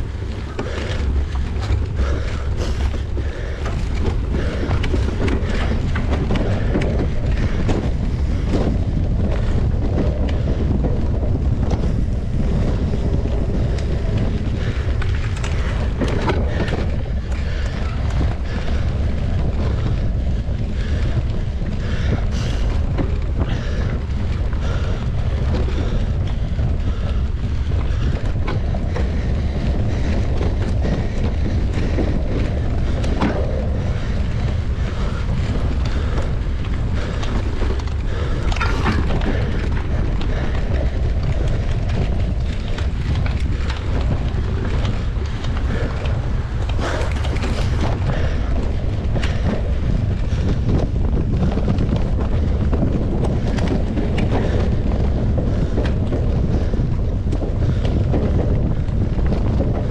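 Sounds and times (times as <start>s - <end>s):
sharp knocks and rattles: 0.0s - 59.8s
wind rumble on microphone: 0.0s - 59.9s.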